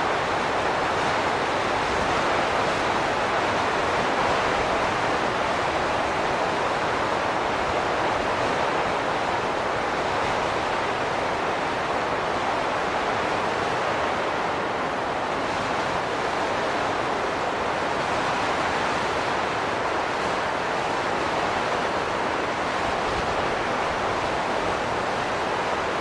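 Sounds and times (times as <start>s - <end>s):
steady rushing wind: 0.0s - 26.0s.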